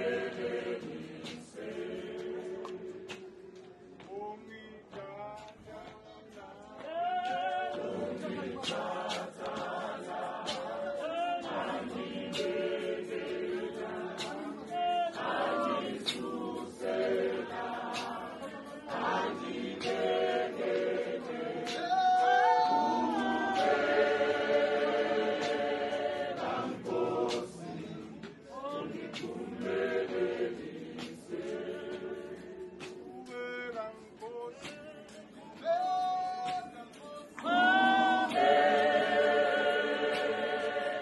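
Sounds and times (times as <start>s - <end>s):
men's choir singing a hymn: 0.0s - 41.0s.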